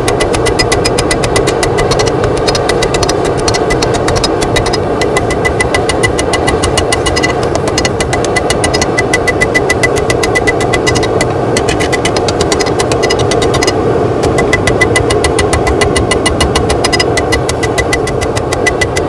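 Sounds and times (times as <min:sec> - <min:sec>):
gas forge burner roar: 0:00.0 - 0:19.0.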